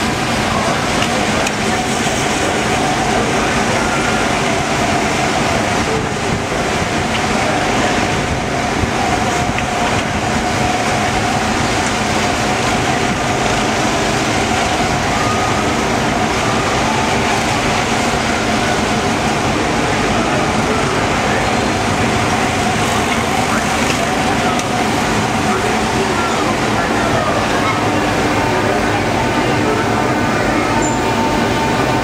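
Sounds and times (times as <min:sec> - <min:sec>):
amusement park din: 0:00.0 - 0:32.0.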